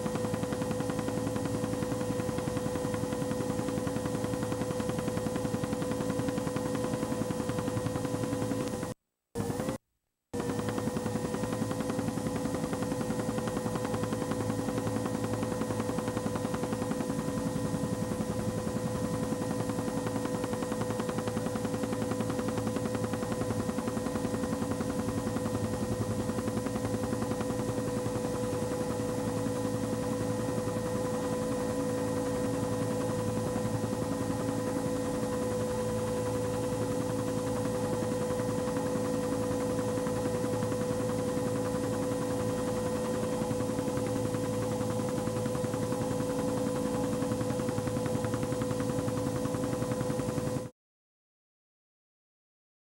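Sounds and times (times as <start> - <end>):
aircraft cabin engine drone: 0.0 - 9.8, 10.4 - 50.7.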